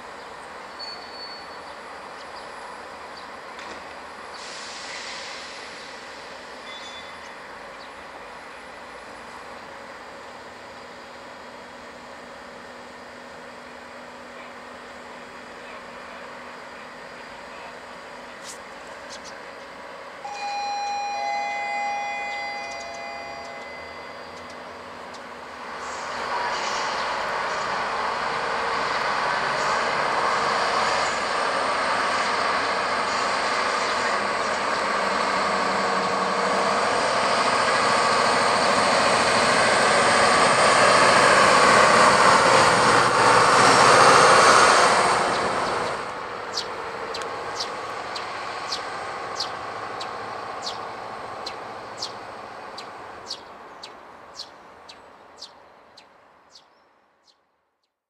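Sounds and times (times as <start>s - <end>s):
diesel locomotive passing: 0.0s - 57.4s.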